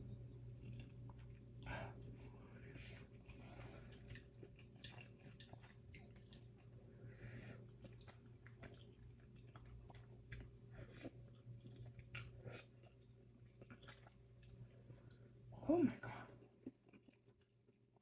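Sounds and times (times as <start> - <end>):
steady low hum: 0.0 - 16.6
chewing noodles: 0.6 - 15.4, 16.3 - 18.0.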